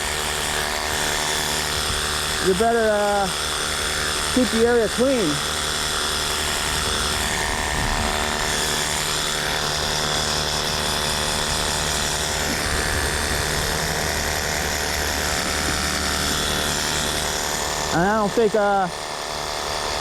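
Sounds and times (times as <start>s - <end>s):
pressure washer motor drone: 0.0s - 20.0s.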